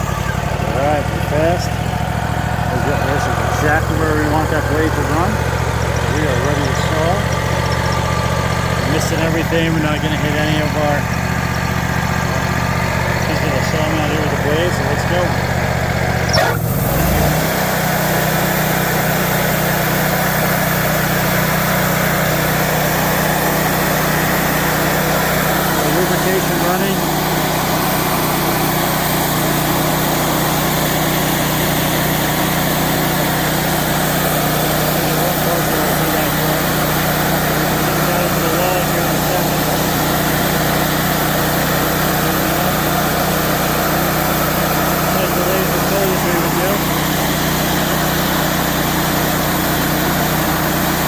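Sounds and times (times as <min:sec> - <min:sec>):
bandsaw mill sawing wood: 0:00.0 - 0:11.1, 0:12.0 - 0:51.0
sawmill engine running: 0:00.0 - 0:51.0.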